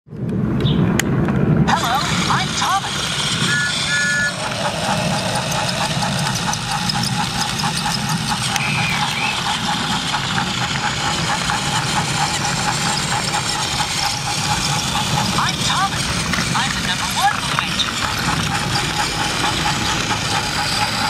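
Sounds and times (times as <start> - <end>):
fast gear clicking: 1.7 - 21.0
toy train motor whir: 1.7 - 21.0.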